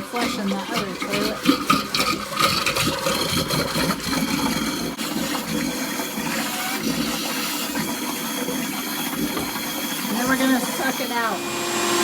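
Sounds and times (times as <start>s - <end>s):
toilet flushing: 0.0s - 12.0s
water draining: 0.0s - 12.0s.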